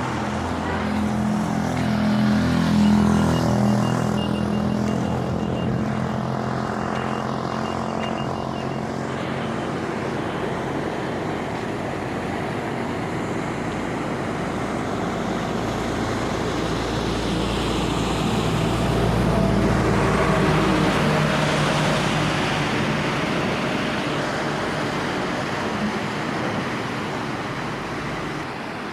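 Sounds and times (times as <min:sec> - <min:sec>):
engine rushing noise: 0:00.0 - 0:28.8.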